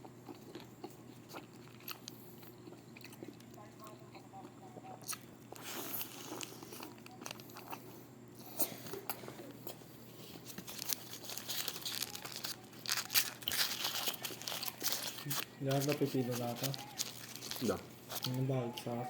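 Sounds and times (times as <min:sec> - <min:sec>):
food crunching and crinkling: 0:00.0 - 0:19.0.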